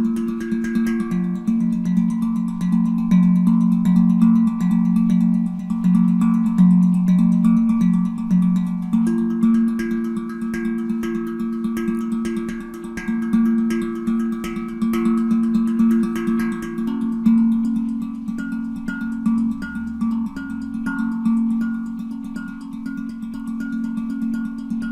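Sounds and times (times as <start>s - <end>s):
handpan notes ringing: 0.0s - 24.9s.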